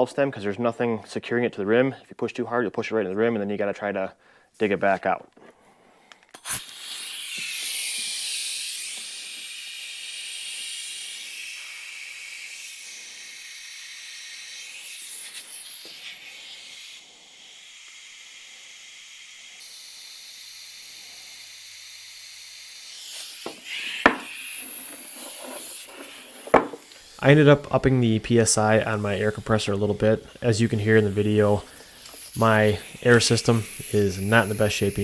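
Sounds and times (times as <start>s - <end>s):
compressed air hissing: 6.3s - 35.0s.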